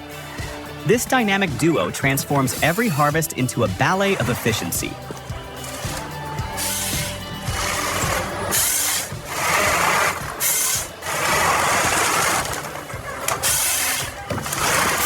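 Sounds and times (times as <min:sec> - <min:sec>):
timber harvester machine noise: 0:00.9 - 0:15.0.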